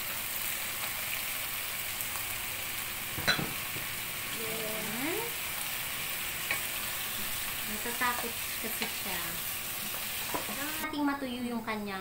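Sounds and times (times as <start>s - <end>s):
chicken sizzling in hot oil: 0.0s - 10.9s.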